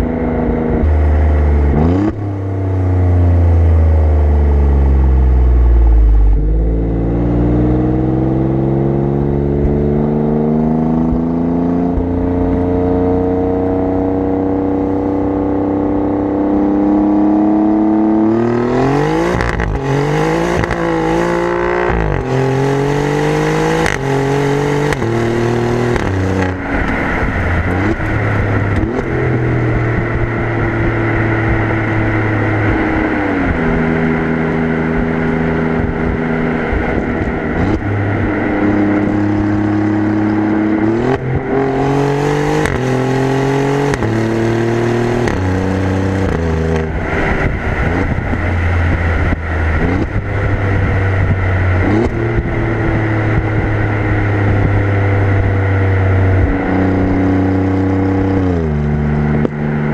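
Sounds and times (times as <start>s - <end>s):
car exhaust accelerating: 0.0s - 59.9s.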